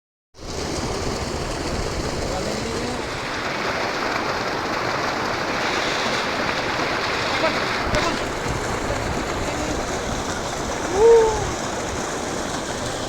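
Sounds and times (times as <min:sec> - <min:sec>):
river water rushing: 0:00.4 - 0:13.0.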